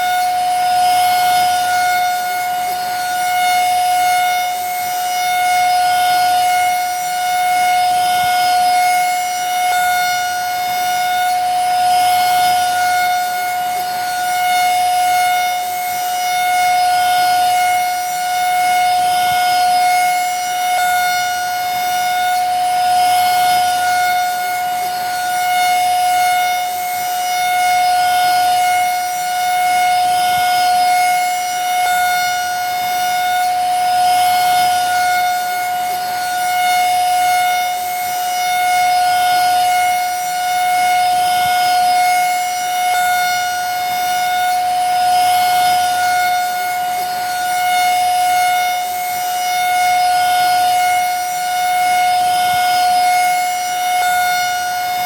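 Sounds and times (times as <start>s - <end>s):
vacuum cleaner motor whining: 0.0s - 55.0s.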